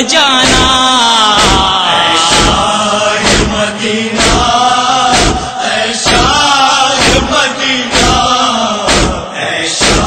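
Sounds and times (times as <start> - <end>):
voices chanting a lament: 0.0 - 10.0.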